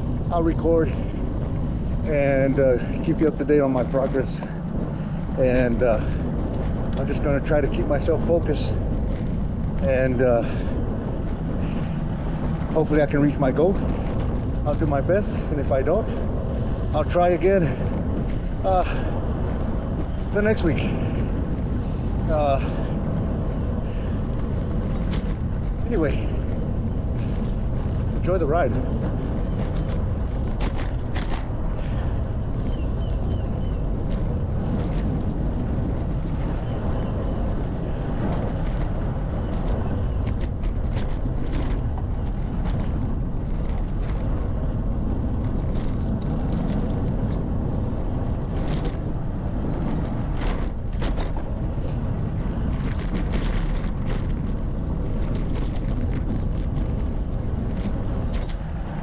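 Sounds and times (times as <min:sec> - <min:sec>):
bicycle tyre and road noise: 0:00.0 - 0:59.0
wind rushing over microphone: 0:00.0 - 0:59.0.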